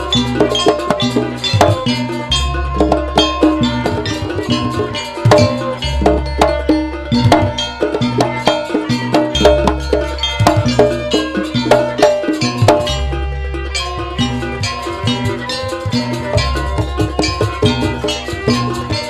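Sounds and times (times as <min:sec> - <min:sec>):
gamelan ensemble playing: 0:00.0 - 0:19.0.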